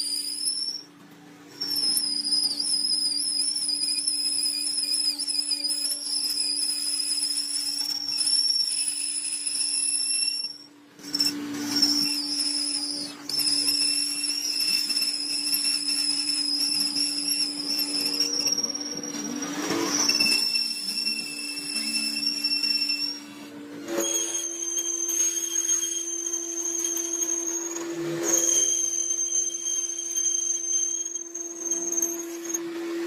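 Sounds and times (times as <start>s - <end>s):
metal-on-metal machining squeal: 0.0s - 33.0s.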